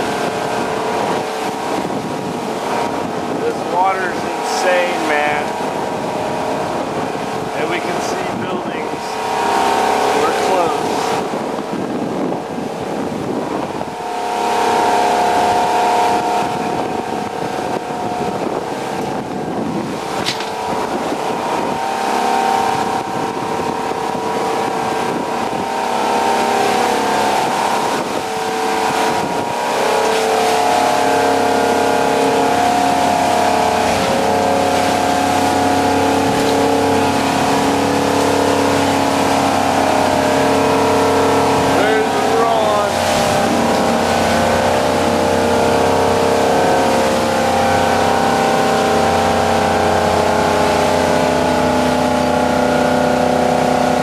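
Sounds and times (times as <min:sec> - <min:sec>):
motorboat engines droning: 0:00.0 - 0:54.0
rush of wind and water: 0:00.0 - 0:54.0.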